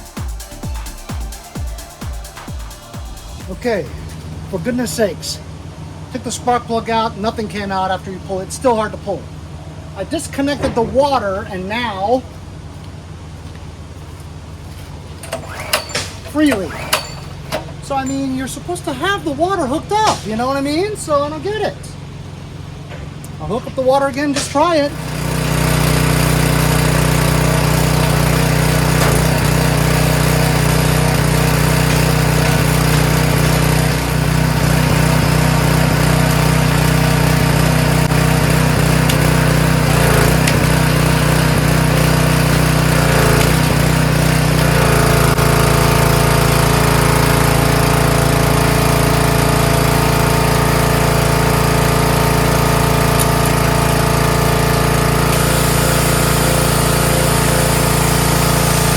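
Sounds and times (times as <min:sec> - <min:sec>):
pressure washer engine running: 0:00.0 - 0:58.9.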